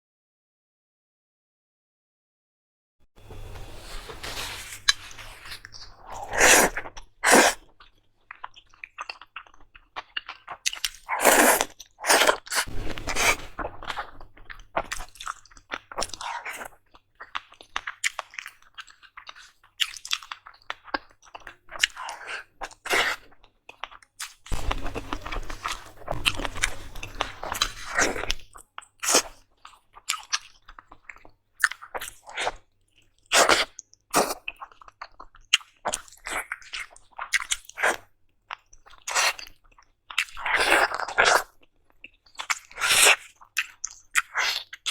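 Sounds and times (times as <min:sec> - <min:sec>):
person chewing and crunching food: 0:04.5 - 0:44.9.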